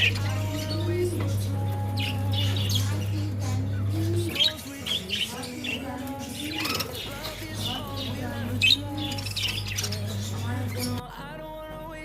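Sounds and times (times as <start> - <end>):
budgerigars chirping: 0.0 - 11.0
low hum: 0.0 - 12.0.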